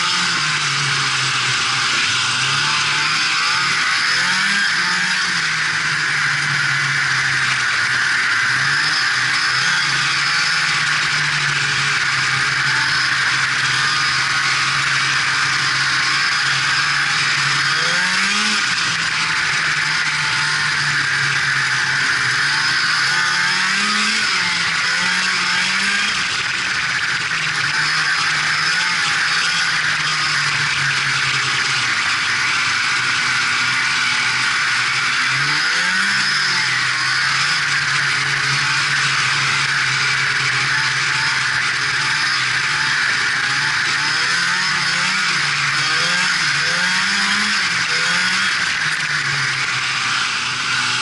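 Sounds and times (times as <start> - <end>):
snowmobile engine running: 0.0 - 51.0.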